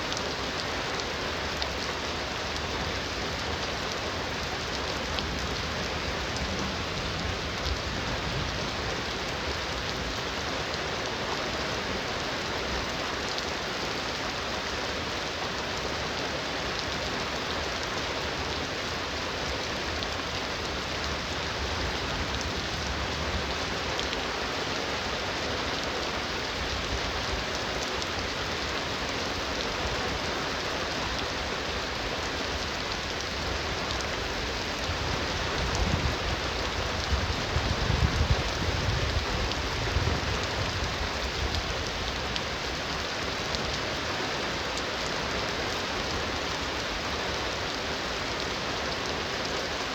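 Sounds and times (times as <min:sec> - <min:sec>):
raindrops ticking on surfaces: 0:00.0 - 0:49.9.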